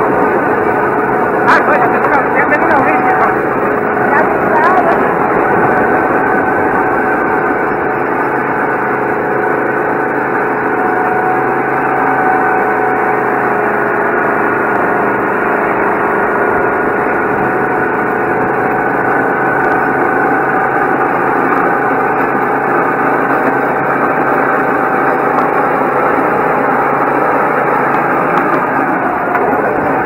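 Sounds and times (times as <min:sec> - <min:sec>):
go-kart engine running: 0:00.0 - 0:30.0.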